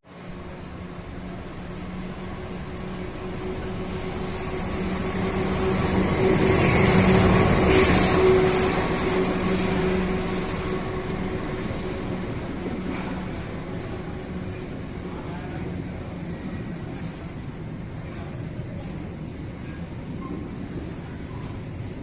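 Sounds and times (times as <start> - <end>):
train passing: 0.1 - 22.0.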